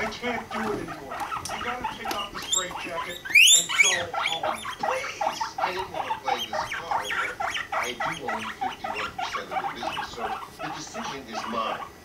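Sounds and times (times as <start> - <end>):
guinea pigs squeaking: 0.0 - 12.0.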